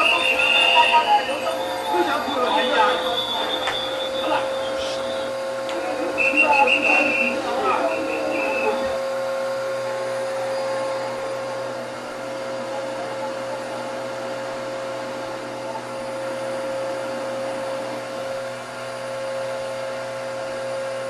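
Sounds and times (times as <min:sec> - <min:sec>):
vacuum cleaner motor running: 0:00.0 - 0:21.0.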